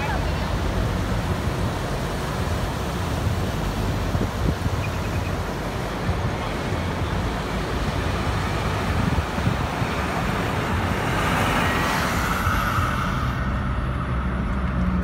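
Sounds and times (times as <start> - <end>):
high whine: 0.0 - 15.0
road and tyre noise: 0.0 - 15.0.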